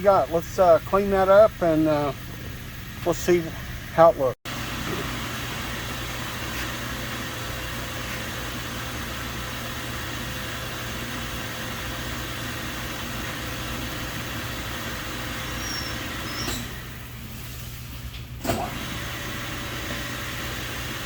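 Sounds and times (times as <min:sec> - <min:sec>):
pump motor hum: 0:01.1 - 0:17.7, 0:18.4 - 0:21.0.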